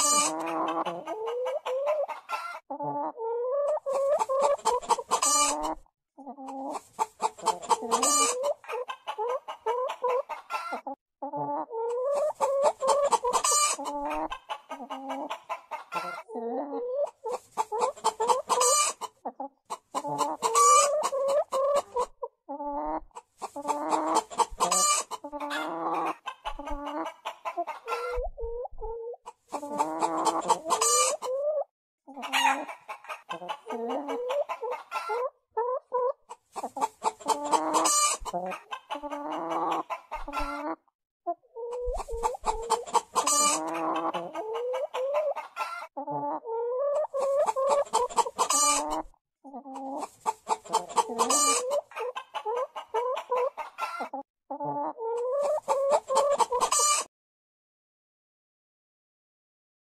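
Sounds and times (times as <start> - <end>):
hen cackling: 0.0 - 40.8, 41.5 - 57.1.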